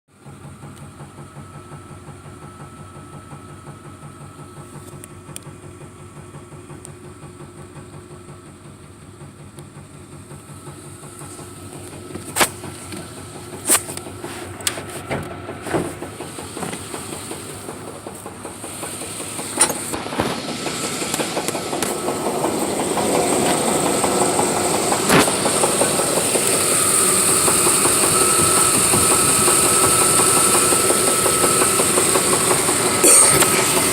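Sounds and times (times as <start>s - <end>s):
engine running with rhythmic knock: 0.1s - 33.9s.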